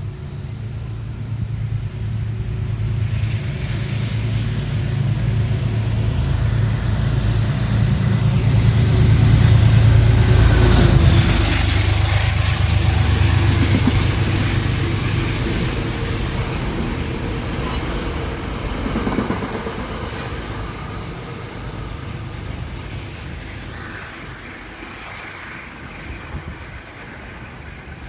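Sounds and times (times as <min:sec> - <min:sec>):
diesel locomotive engine drone: 0:00.0 - 0:28.0
train wheels rumbling on rails: 0:00.0 - 0:28.0.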